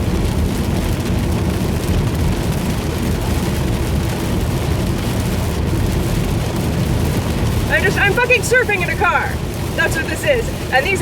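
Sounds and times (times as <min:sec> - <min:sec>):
rain hissing on car: 0:00.0 - 0:11.0.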